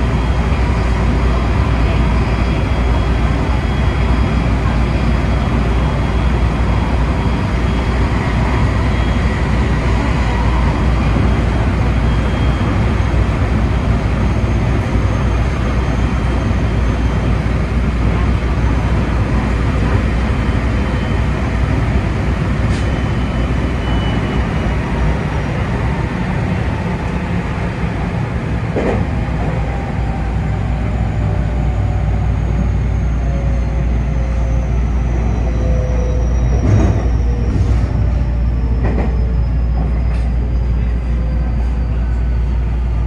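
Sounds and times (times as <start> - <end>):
train rumbling on rails: 0.0 - 43.0.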